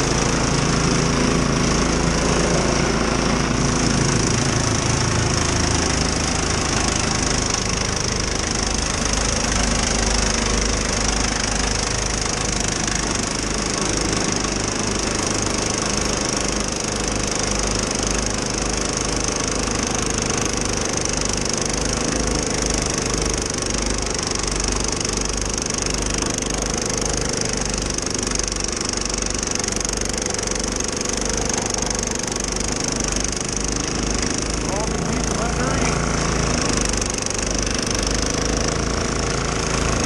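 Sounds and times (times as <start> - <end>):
snow blower engine running: 0.0 - 40.0.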